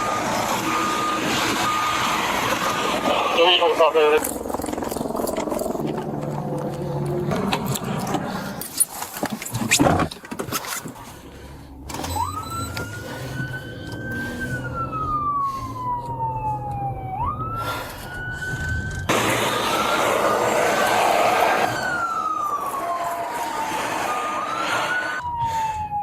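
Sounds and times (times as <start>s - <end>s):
police siren wailing: 0.0s - 7.9s, 11.9s - 26.0s.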